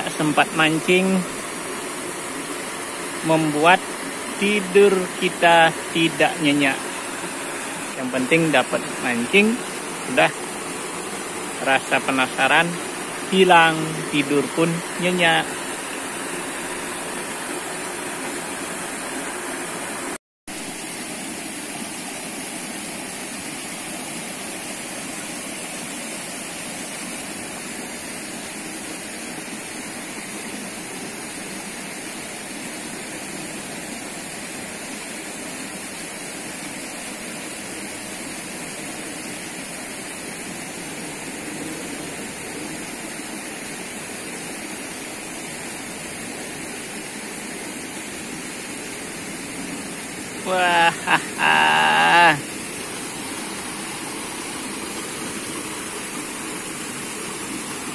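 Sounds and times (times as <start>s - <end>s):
stream water over rocks: 0.0s - 57.9s.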